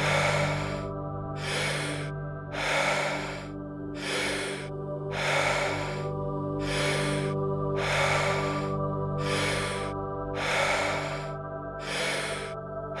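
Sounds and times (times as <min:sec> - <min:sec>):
droning background music: 0:00.0 - 0:13.0
forceful deep breathing: 0:00.0 - 0:13.0.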